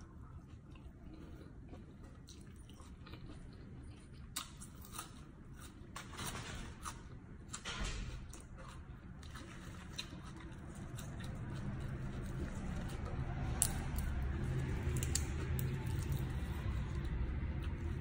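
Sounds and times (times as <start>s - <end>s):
person chewing crisp greens: 0.0s - 6.1s, 8.3s - 18.0s.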